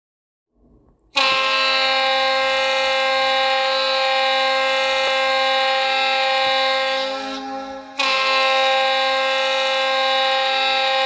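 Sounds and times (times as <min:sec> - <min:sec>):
goal horn blast: 0:01.2 - 0:11.0.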